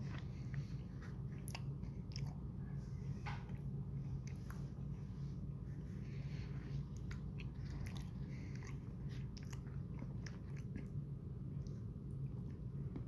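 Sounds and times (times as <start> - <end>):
person chewing food: 0.0 - 2.6, 3.2 - 13.0
low hum: 0.0 - 13.0.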